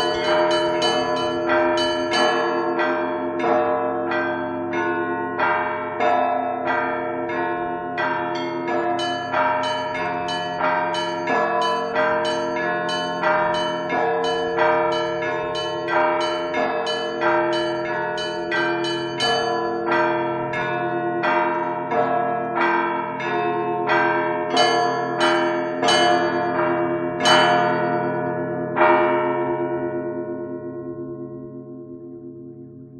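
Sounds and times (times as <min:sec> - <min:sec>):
bells ringing: 0:00.0 - 0:30.0.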